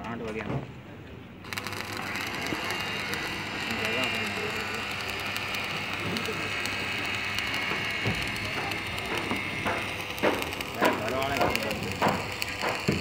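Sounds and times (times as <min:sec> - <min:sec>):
welding arc crackling and hissing: 0:01.4 - 0:13.0.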